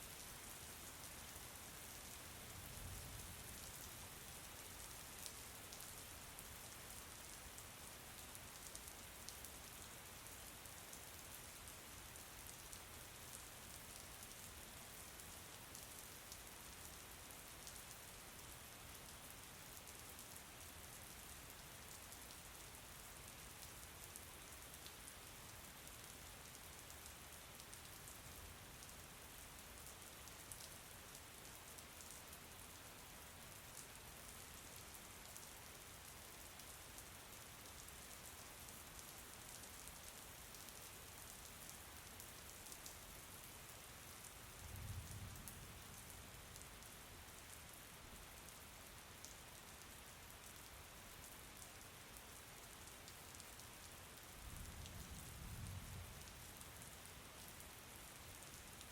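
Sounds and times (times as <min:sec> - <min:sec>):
soft rain falling: 0:00.0 - 0:58.9.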